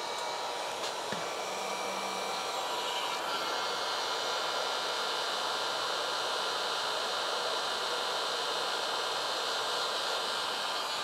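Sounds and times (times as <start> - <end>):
heat gun fan blowing: 0.0 - 11.0.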